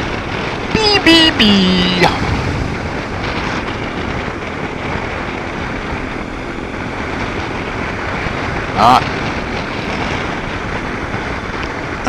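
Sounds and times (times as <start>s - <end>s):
motorcycle road noise on wet road: 0.0s - 12.0s
wind rush on microphone: 0.0s - 12.0s.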